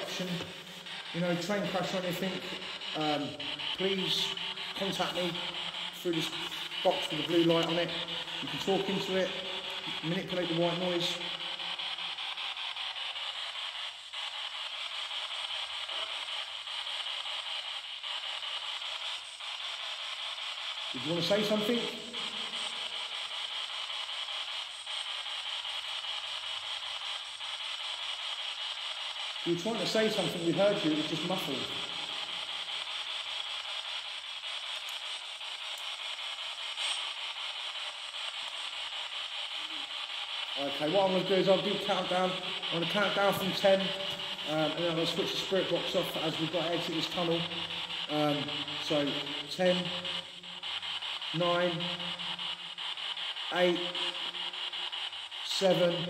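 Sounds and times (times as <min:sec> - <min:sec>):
radio static hiss: 0:00.0 - 0:56.0.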